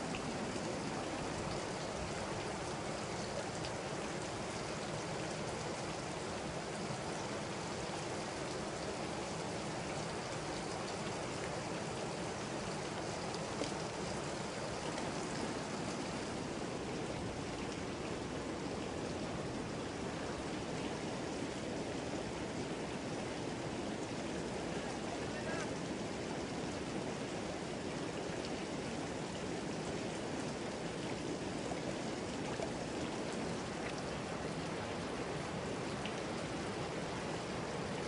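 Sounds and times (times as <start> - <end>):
rain falling on water: 0.0 - 38.0
stream rushing: 0.0 - 38.0.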